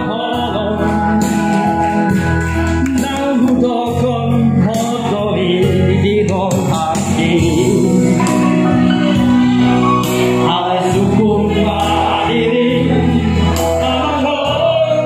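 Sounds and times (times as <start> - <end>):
instrumental backing: 0.0 - 15.0
man singing into a microphone: 0.0 - 15.0.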